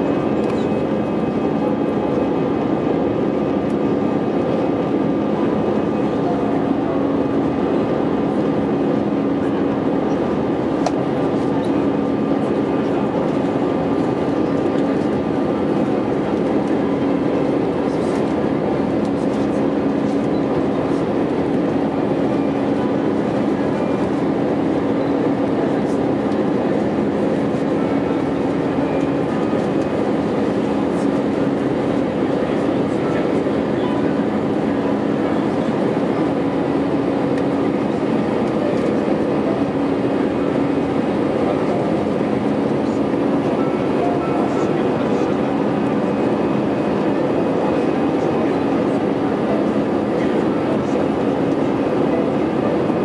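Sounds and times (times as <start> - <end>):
constant low hum: 0.0 - 53.0
jet engine and airflow noise: 0.0 - 53.0.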